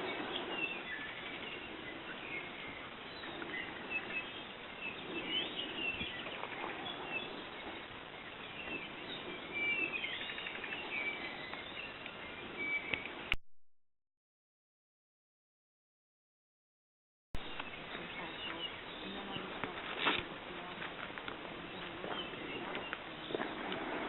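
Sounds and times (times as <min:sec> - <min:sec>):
small birds chirping: 0:00.0 - 0:13.3, 0:17.4 - 0:24.0.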